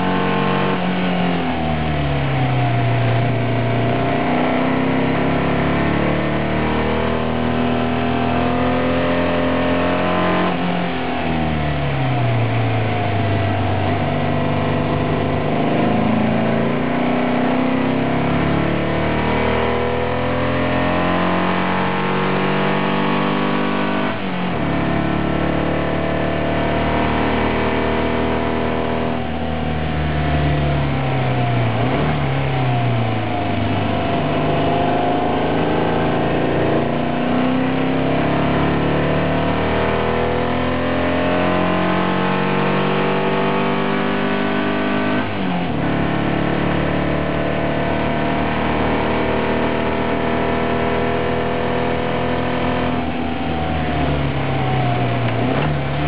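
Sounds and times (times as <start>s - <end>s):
car engine from inside: 0.0s - 56.0s.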